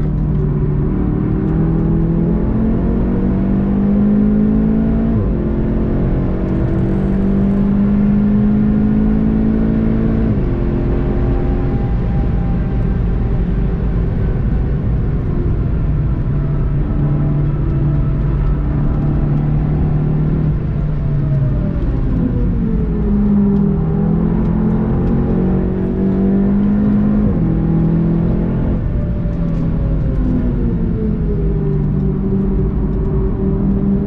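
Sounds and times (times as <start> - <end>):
car engine at speed: 0.0 - 34.0
wind and road noise: 0.0 - 34.0.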